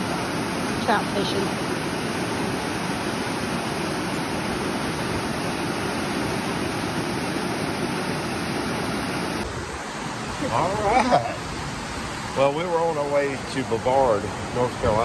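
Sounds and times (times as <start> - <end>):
whitewater rushing over rock: 0.0 - 15.0.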